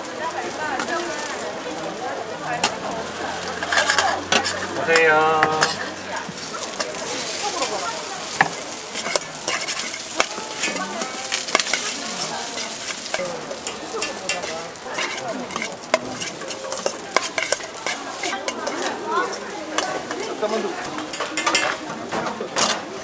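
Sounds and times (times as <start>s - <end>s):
food sizzling on a griddle: 0.0s - 23.0s
metal utensils clicking and scraping: 0.2s - 23.0s.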